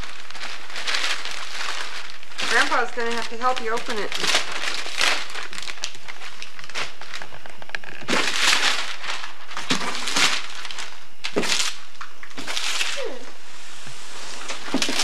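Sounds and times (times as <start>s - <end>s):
paper tearing and crumpling: 0.0s - 15.0s.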